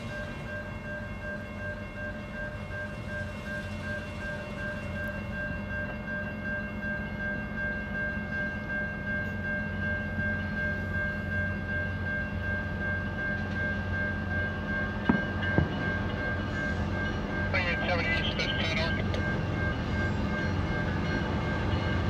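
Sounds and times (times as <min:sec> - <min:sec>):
crossing warning bell ringing: 0:00.0 - 0:22.0
distant diesel locomotives rumbling: 0:00.0 - 0:22.0.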